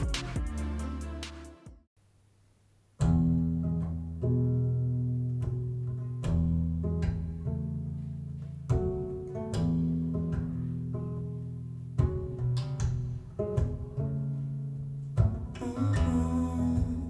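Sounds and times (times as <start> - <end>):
slow acoustic guitar: 3.0 - 17.0.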